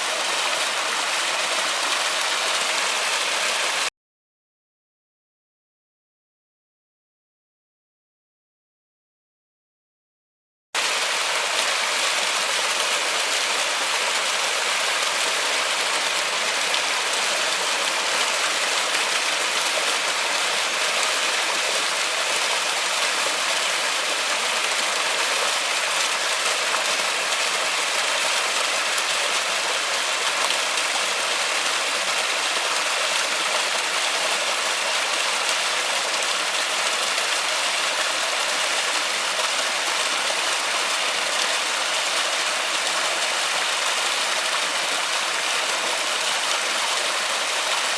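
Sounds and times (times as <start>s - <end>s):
heavy rain on foliage: 0.0s - 3.9s, 10.8s - 47.9s.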